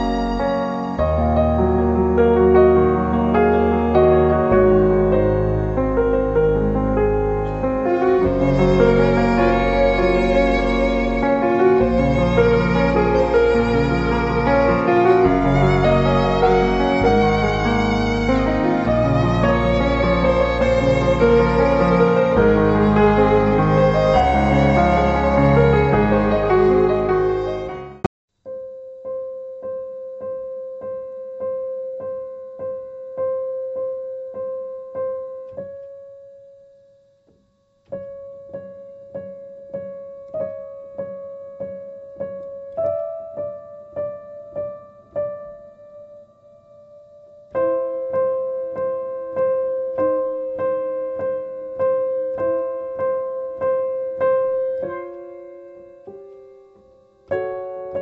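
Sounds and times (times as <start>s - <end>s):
low piano notes: 0.0s - 58.0s
piano repeating note: 0.0s - 58.0s.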